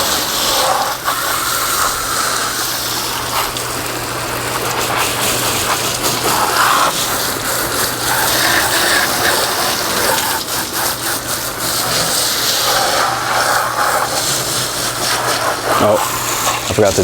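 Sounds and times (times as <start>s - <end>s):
hose spraying water onto boat: 0.0s - 17.0s.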